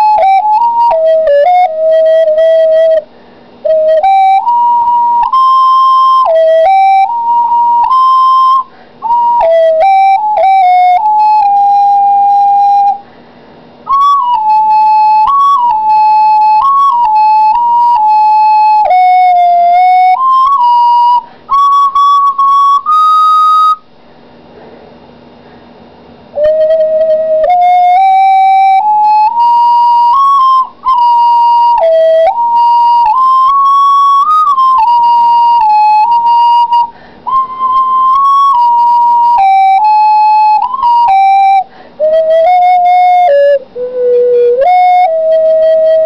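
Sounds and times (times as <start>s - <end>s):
ocarina melody: 0.0s - 13.1s, 13.8s - 23.9s, 26.3s - 46.0s.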